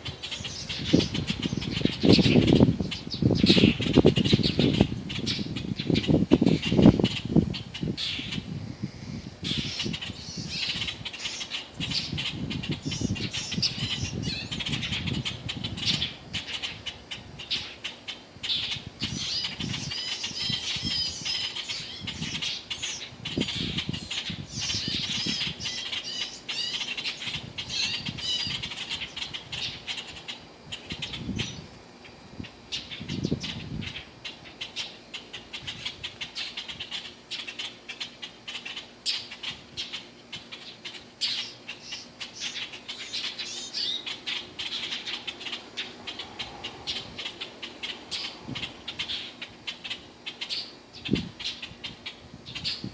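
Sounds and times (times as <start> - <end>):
baby bird cheeping: 0.0 - 52.9.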